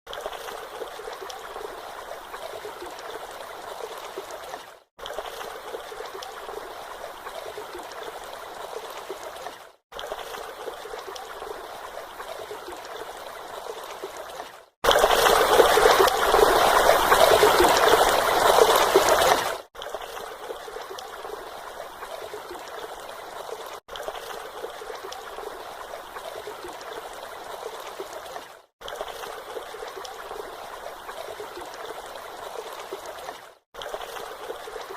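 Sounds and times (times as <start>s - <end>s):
stream water trickling: 0.1s - 34.9s.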